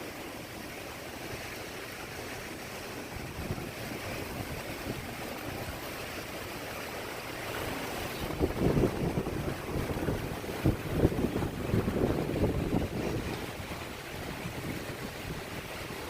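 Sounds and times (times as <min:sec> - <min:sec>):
hurricane wind buffeting microphone: 0:01.1 - 0:16.0.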